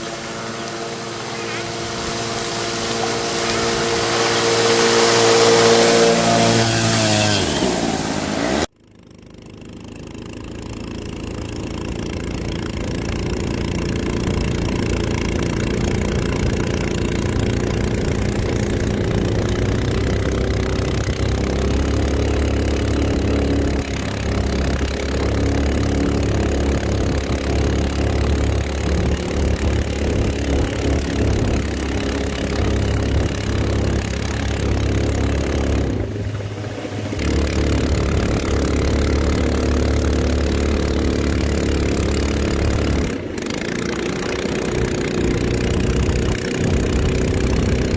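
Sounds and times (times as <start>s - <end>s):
engine deep rumble: 0.0s - 47.9s.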